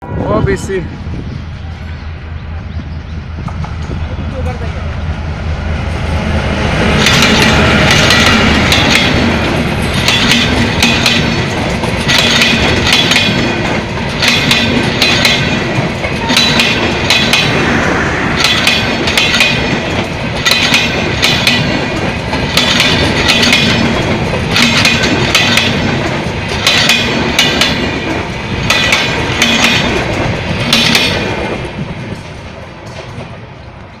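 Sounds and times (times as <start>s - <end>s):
low train rumble: 0.0s - 34.0s
train wheels clattering: 6.6s - 34.0s.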